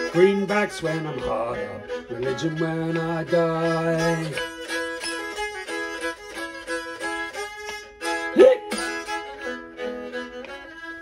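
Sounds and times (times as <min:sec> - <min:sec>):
fiddle melody over drone: 0:00.0 - 0:11.0.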